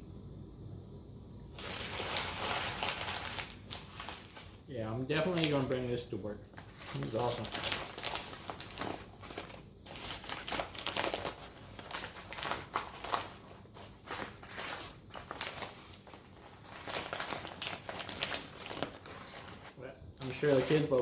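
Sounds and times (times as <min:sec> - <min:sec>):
sandwich wrapper crinkling: 0:01.5 - 0:21.0.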